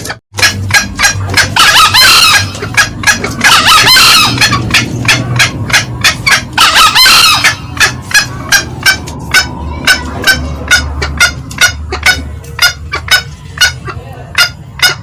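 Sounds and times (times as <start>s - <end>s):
junglefowl cackling calls: 0.0s - 15.0s.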